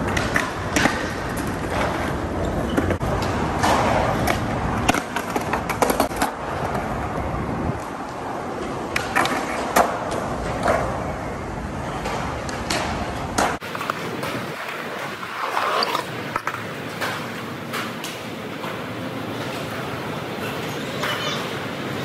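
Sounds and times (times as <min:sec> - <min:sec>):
skateboard clacks: 0:00.0 - 0:11.2, 0:11.8 - 0:22.0
skateboard wheels rolling on concrete: 0:00.0 - 0:22.0.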